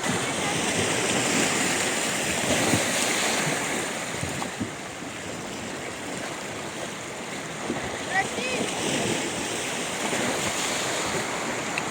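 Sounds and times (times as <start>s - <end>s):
sea surf washing ashore: 0.0s - 11.9s
wind gusting on microphone: 0.0s - 11.9s.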